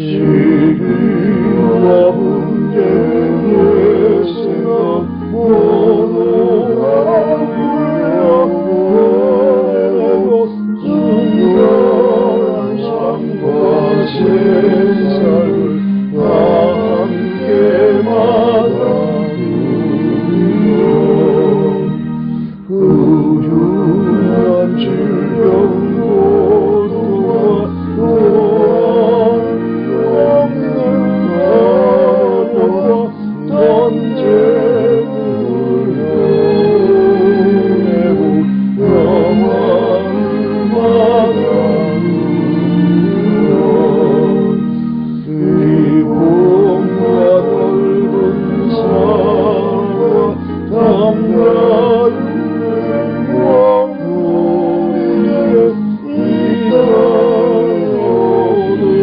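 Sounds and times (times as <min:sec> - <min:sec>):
choir singing a hymn in parts: 0:00.0 - 0:59.0
sustained accompaniment: 0:00.0 - 0:59.0.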